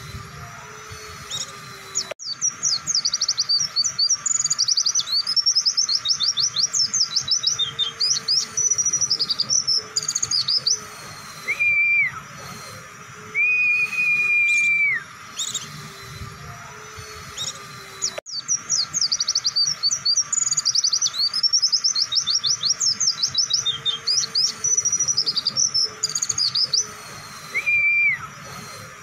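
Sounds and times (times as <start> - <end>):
bird high chirping: 0.0 - 29.0
bird long level whistles: 0.0 - 29.0.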